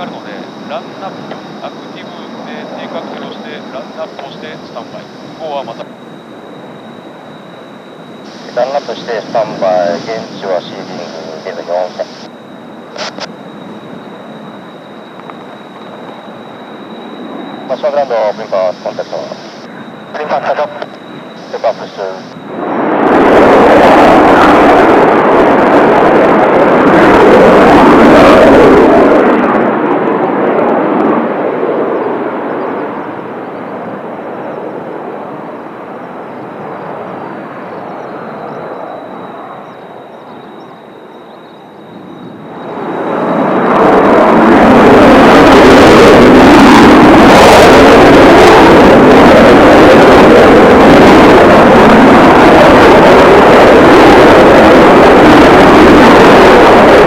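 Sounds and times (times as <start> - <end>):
faint high whine: 0.0 - 57.0
jet engine roar: 0.0 - 57.0.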